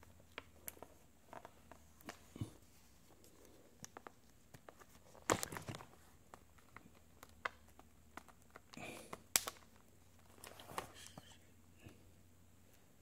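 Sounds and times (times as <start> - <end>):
tablet rustling: 0.0 - 13.0.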